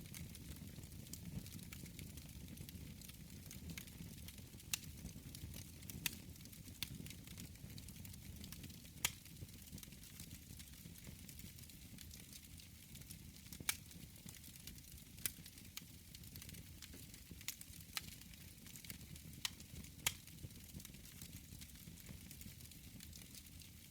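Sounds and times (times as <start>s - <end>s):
fire crackles and pops: 0.0s - 23.9s.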